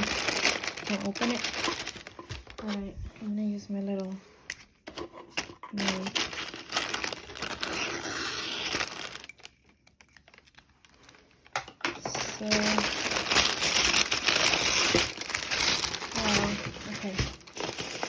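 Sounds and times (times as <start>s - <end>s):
packing peanuts rustling: 0.0s - 3.0s, 5.4s - 18.0s.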